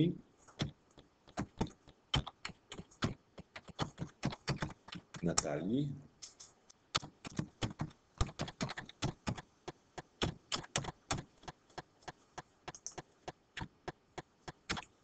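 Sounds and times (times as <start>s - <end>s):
computer keyboard typing: 0.5s - 5.5s, 6.9s - 14.9s.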